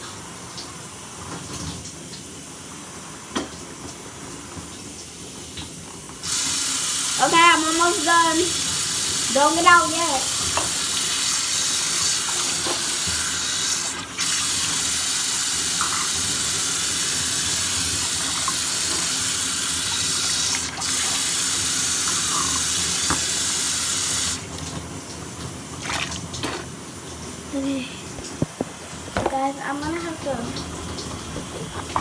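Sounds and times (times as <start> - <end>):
water running: 0.0 - 32.0.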